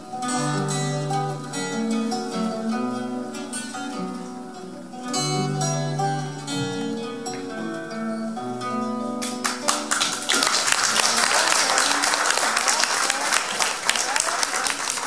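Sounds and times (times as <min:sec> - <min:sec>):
acoustic guitars playing: 0:00.0 - 0:12.7.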